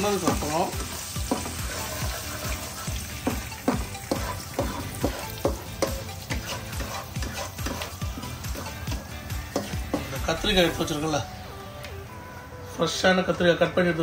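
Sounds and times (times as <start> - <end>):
spices sizzling in oil: 0.0 - 11.4.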